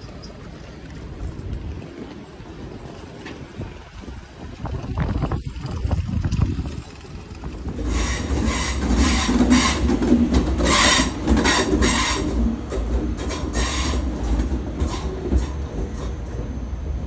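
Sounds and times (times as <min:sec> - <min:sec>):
wheel clatter over rails: 0:00.0 - 0:16.8
train passing with deep rumble: 0:00.0 - 0:17.0.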